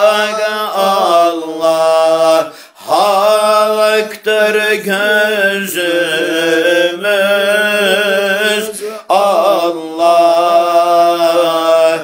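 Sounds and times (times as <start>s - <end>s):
person singing a hymn: 0.0s - 12.0s.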